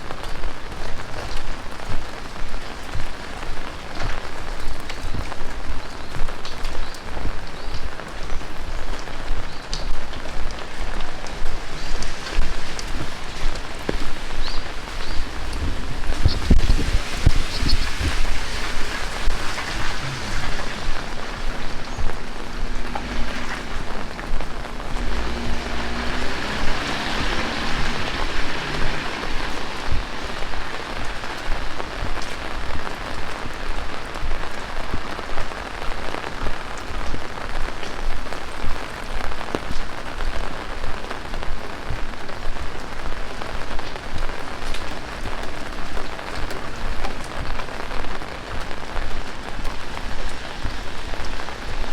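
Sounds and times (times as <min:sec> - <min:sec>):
heavy rain falling: 0:00.0 - 0:51.9
raindrops ticking close by: 0:00.0 - 0:51.9.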